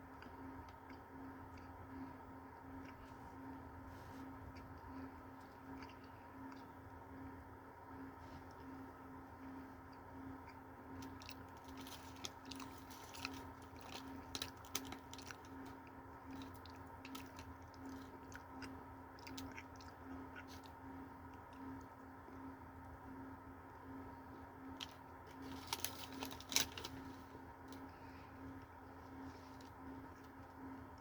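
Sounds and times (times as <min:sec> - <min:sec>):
faint chewing: 0:00.0 - 0:31.0.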